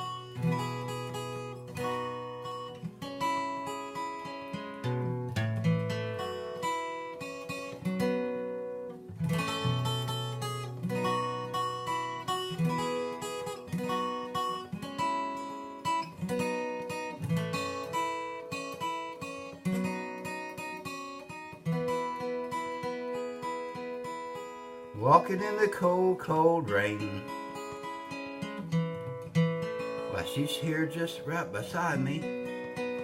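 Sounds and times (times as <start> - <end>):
acoustic guitar strumming and picking: 0.0 - 33.0.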